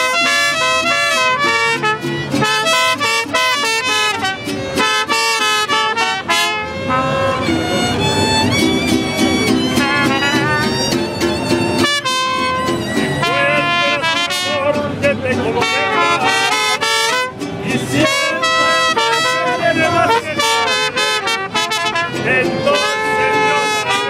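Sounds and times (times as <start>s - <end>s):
mariachi band playing: 0.0s - 24.0s.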